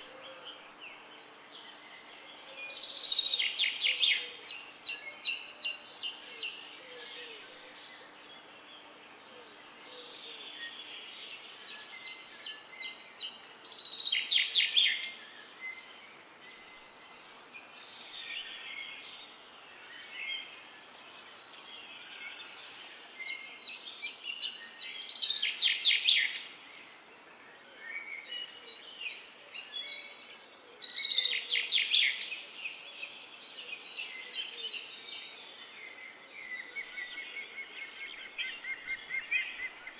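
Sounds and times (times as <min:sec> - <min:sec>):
faint outdoor background hiss: 0:00.0 - 0:39.9
songbird singing trills: 0:00.0 - 0:39.9.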